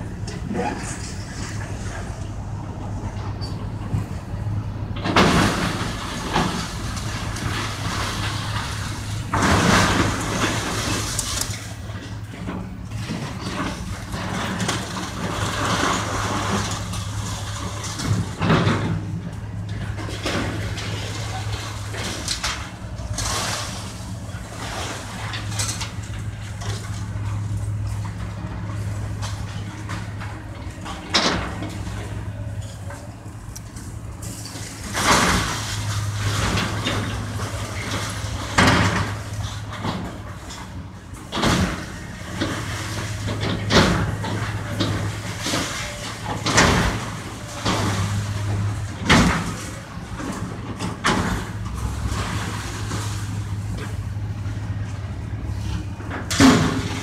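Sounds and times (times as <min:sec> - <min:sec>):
diesel engine hum: 0:00.0 - 0:57.0
crashes of falling debris: 0:05.1 - 0:32.7, 0:33.7 - 0:54.0, 0:56.1 - 0:57.0.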